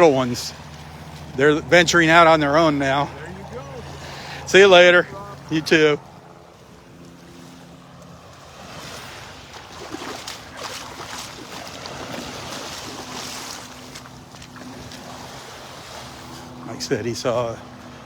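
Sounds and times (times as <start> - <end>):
surf washing on beach: 0.0 - 18.0.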